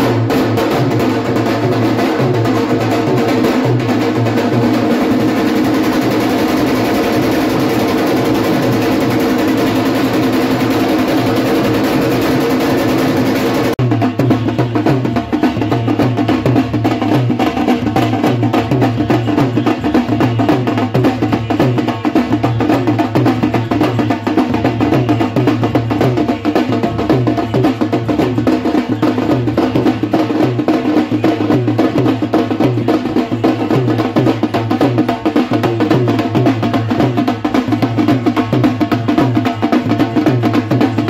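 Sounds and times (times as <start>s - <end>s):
dhol drumming: 0.0s - 41.0s.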